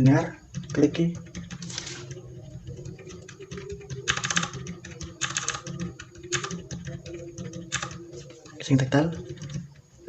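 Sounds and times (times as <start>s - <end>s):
mechanical keyboard typing: 0.0s - 9.8s.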